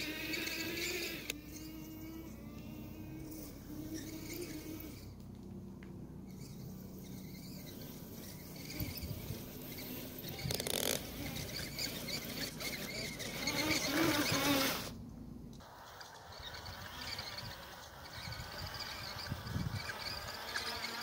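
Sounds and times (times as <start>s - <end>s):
motor and gearbox whine: 0.0s - 21.0s.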